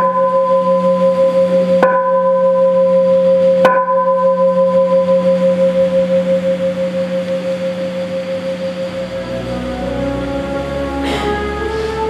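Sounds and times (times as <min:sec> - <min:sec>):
deep-toned bell ringing: 0:00.0 - 0:12.0.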